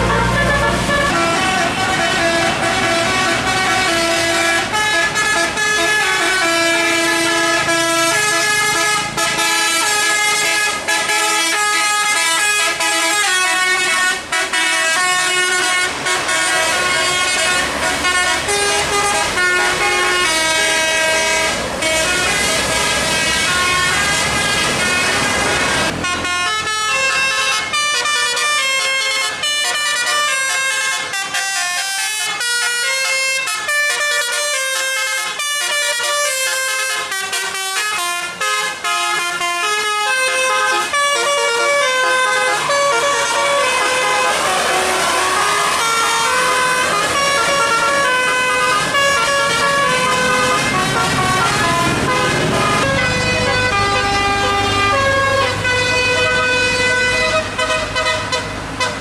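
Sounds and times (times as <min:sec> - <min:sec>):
engine and road rumble: 0:00.0 - 0:59.0
musical air horn playing tune: 0:00.0 - 0:59.0.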